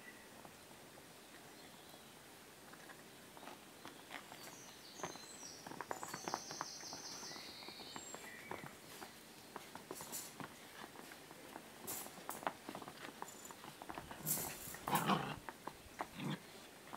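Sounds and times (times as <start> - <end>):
puppy paws scrabbling on a mat: 2.7 - 16.9.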